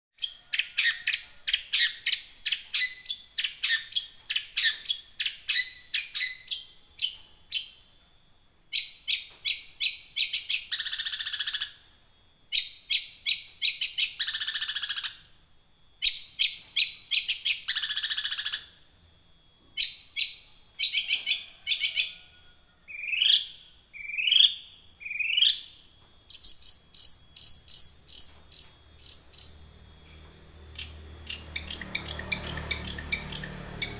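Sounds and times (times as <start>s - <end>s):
bird chirping and trilling: 0.2s - 8.0s, 8.7s - 18.8s, 19.8s - 33.9s.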